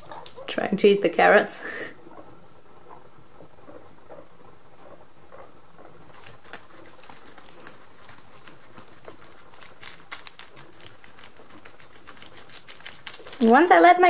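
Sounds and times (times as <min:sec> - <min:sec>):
guinea pigs chewing lettuce: 0:00.0 - 0:14.0.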